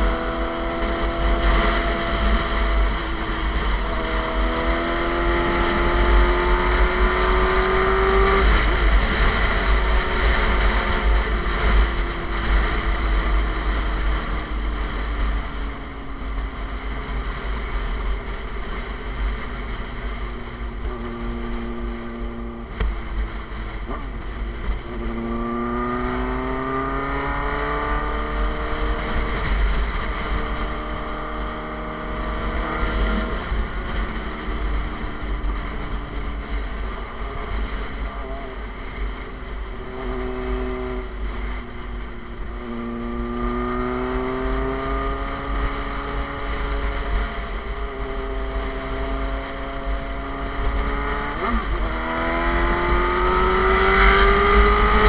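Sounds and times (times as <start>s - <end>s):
motorcycle engine accelerating: 0.0s - 55.0s
wind rushing on microphone: 0.0s - 55.0s.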